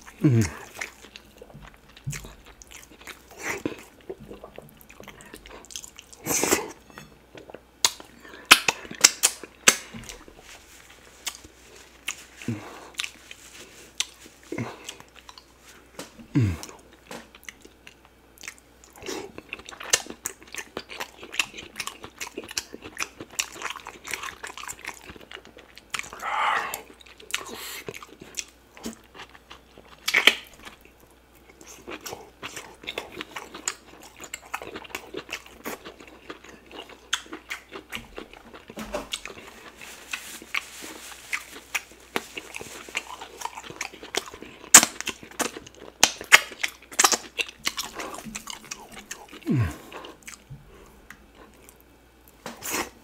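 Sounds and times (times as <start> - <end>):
wet chewing and lip smacking: 0.0 - 6.7, 11.2 - 52.9.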